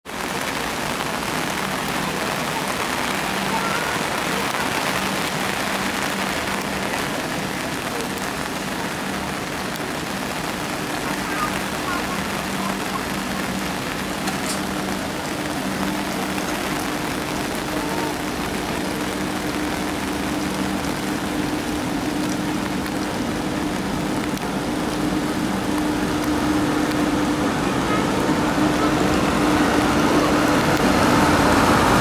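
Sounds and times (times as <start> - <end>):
heavy rain on an umbrella: 0.0 - 32.0
electric locomotive hum: 0.2 - 32.0.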